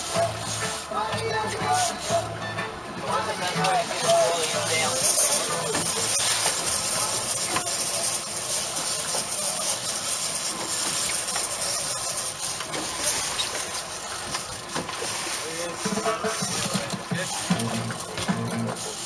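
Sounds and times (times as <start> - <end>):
sea noise: 0.0 - 19.0.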